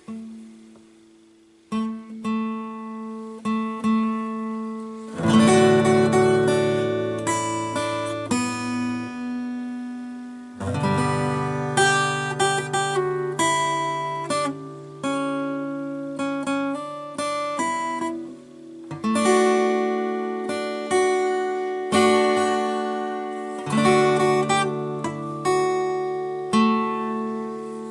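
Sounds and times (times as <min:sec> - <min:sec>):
guitar played slowly: 0:00.0 - 0:27.9.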